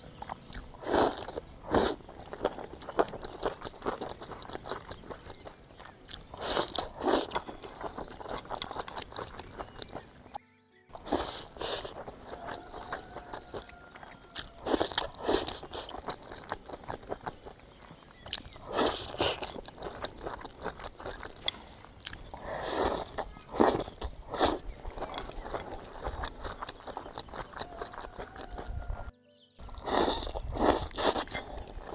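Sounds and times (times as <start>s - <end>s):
crunchy bites and chewing: 0.0s - 31.9s.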